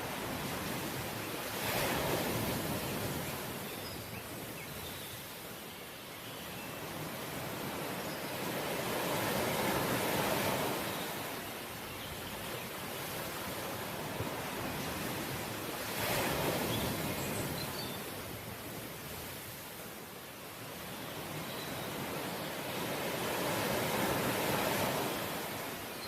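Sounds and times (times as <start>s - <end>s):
sea waves washing ashore: 0.0s - 5.7s, 6.5s - 26.0s.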